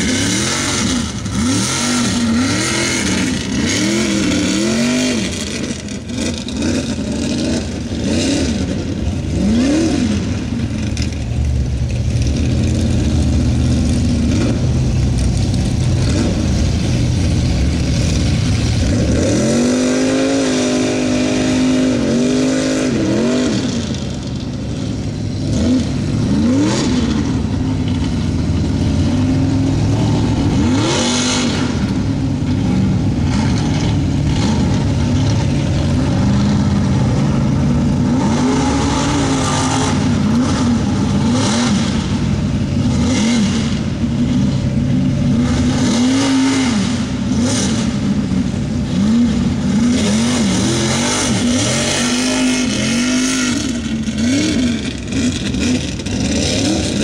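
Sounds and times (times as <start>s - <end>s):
truck engine revving hard: 0.0s - 57.0s.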